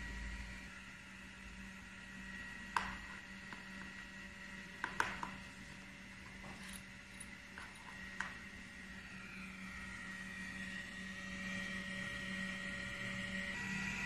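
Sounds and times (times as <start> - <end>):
electrical hum with high whine: 0.0 - 14.0.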